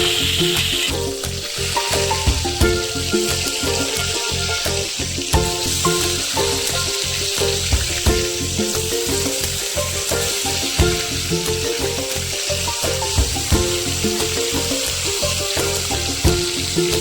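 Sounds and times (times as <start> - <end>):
background music with steady beat: 0.0 - 17.0
food sizzling in oil: 0.0 - 17.0.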